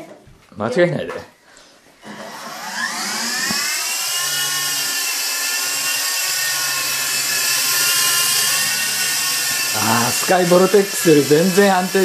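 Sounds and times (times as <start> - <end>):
toy helicopter motor whining: 2.0 - 12.0.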